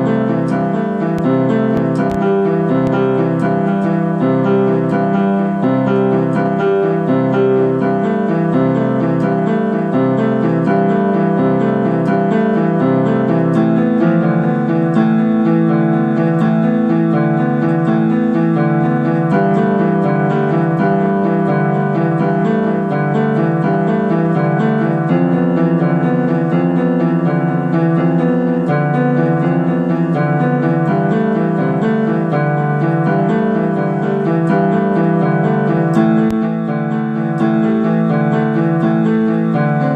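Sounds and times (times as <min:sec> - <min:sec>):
electronic keyboard chords: 0:00.0 - 0:39.9.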